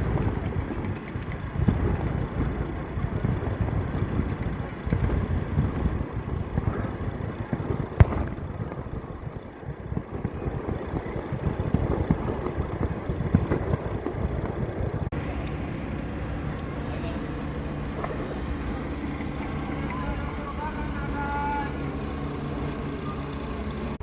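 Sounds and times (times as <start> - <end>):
firework bang: 0.0 - 20.9
fireworks crackling: 0.0 - 24.0
fireworks rumble: 0.0 - 24.0.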